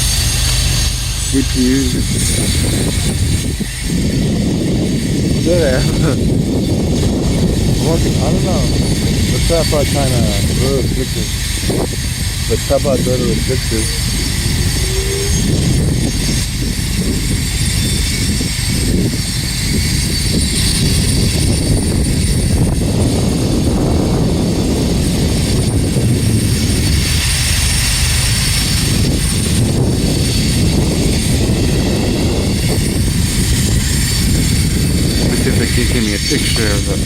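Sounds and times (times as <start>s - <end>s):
freight train wheels roaring on rails: 0.0s - 37.0s
rail hiss: 0.0s - 37.0s.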